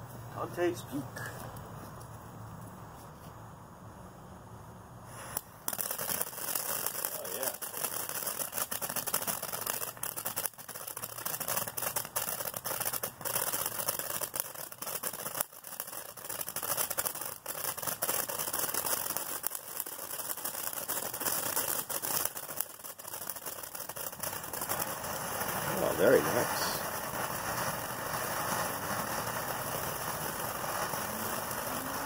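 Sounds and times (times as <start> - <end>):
fountain firework hissing and crackling: 0.0 - 2.1, 4.7 - 32.0.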